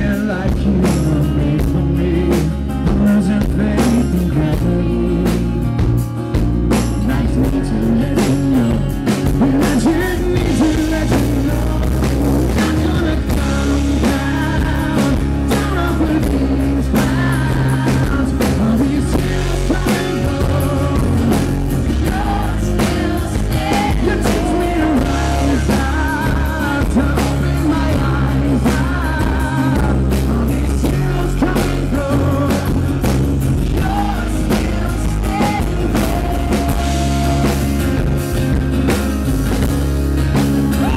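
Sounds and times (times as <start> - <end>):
man singing into microphone: 0.0 - 5.9, 6.9 - 37.8
strummed acoustic guitars: 0.0 - 40.9.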